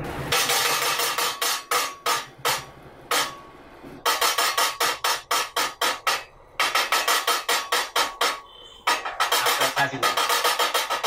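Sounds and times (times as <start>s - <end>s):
ringing metal percussion strokes: 0.3s - 11.0s.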